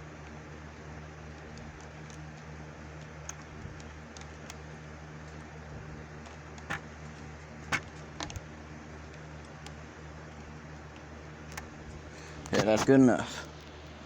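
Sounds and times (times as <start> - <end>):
steady low hum: 0.0 - 14.0
clicks and taps of wires: 0.2 - 12.9.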